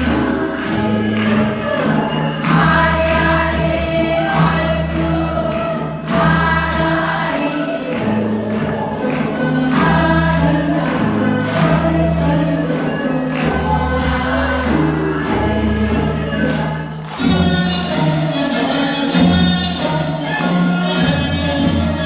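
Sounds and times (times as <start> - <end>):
voices singing together: 0.0 - 22.0.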